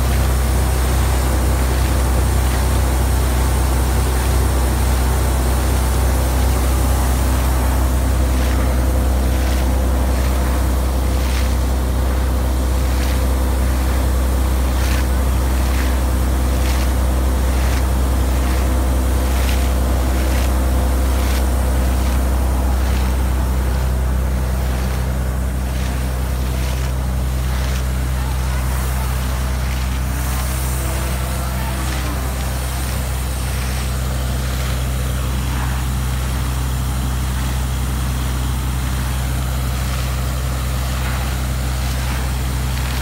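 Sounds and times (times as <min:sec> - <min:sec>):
splashing in muddy water: 0:00.0 - 0:43.0
water gushing: 0:00.0 - 0:43.0
water pump droning: 0:00.0 - 0:43.0.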